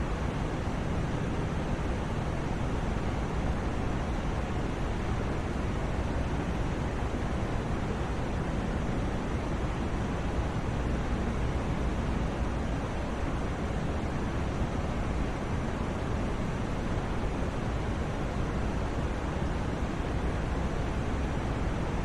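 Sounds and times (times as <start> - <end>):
steady white noise hiss: 0.0 - 22.0.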